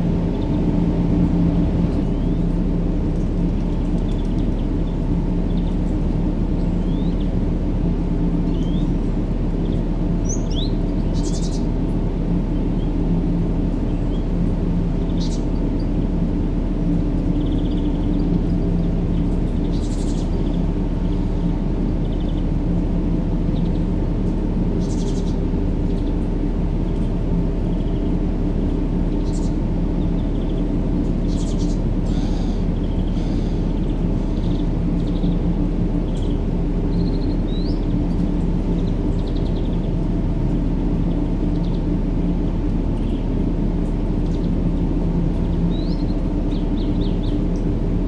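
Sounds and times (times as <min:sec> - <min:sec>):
deep rumbling white noise: 0:00.0 - 0:48.0
faint steady hum: 0:00.0 - 0:48.0.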